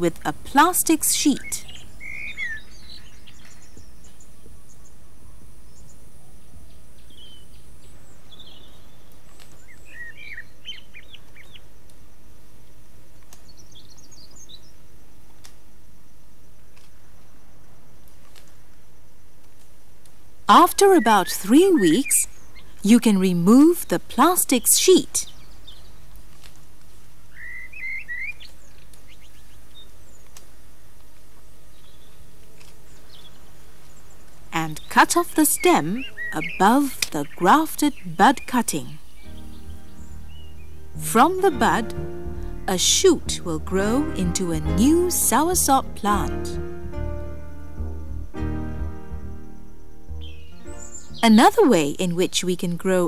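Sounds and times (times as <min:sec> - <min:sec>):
small birds chirping: 0:00.0 - 0:15.3, 0:20.5 - 0:30.7, 0:31.3 - 0:53.0.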